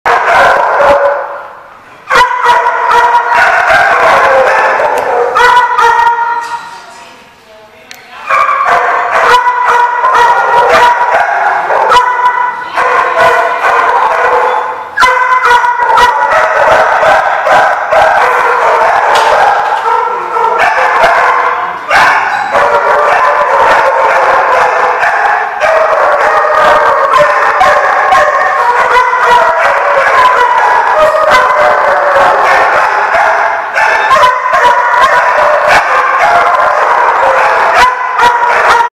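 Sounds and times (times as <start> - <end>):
dogs barking and yipping: 0.1 - 1.5, 2.1 - 6.7, 8.2 - 38.9
dogs howling: 0.1 - 1.5, 2.1 - 6.6, 8.3 - 38.9.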